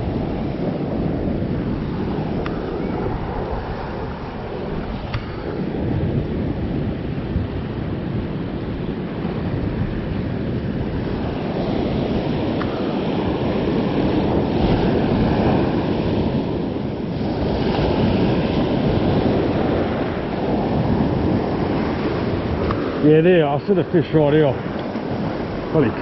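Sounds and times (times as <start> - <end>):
surf washing over sand: 0.0 - 26.0
wind buffeting microphone: 0.0 - 26.0.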